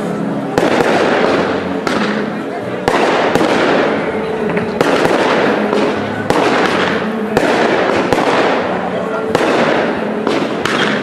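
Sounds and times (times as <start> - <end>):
fireworks crackle and hiss: 0.0 - 4.1, 4.7 - 11.0
fireworks bangs: 0.0 - 11.0.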